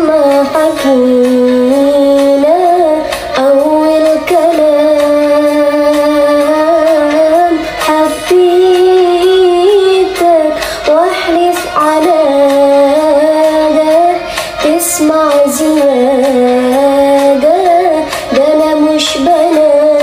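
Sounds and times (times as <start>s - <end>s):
song with person singing: 0.0s - 20.0s.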